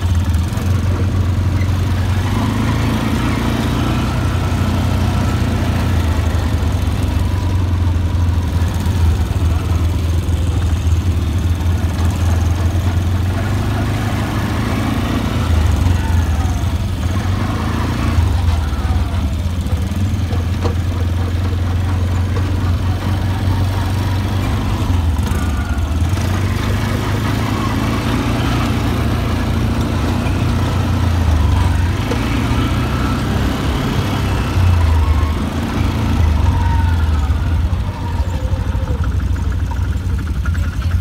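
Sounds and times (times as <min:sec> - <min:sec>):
quad bike engine running: 0:00.0 - 0:41.0.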